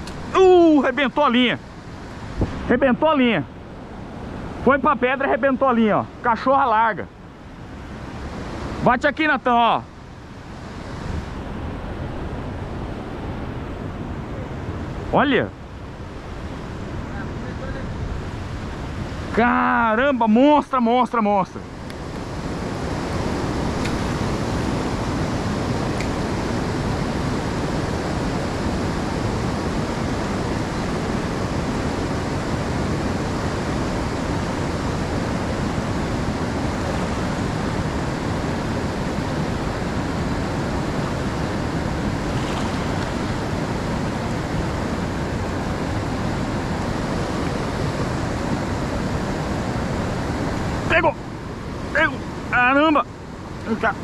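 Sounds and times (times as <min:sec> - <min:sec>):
river rapids rushing: 0:00.0 - 0:54.0.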